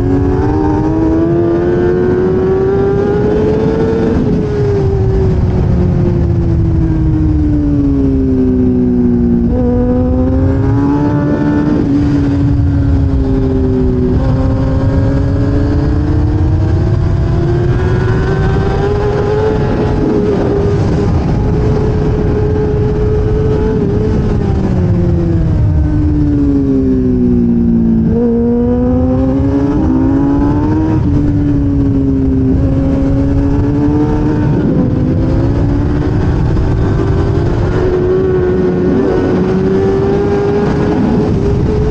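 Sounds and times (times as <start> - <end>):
race motorcycle engine: 0.0 - 41.9.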